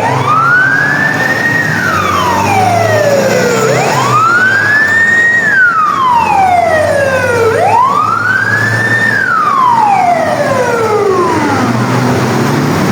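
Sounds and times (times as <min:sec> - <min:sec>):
ambulance siren wailing: 0:00.0 - 0:12.9
vehicle engine hum: 0:00.0 - 0:12.9.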